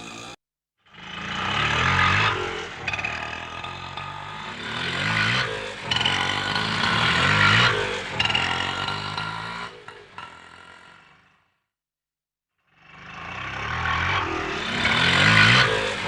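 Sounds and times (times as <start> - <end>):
auto rickshaw engine running: 0.0 - 11.3, 12.8 - 16.0.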